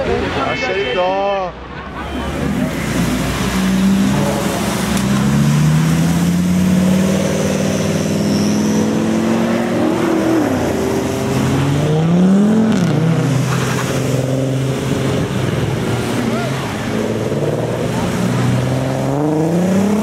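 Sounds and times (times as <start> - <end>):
car engine revving: 2.3 - 20.0.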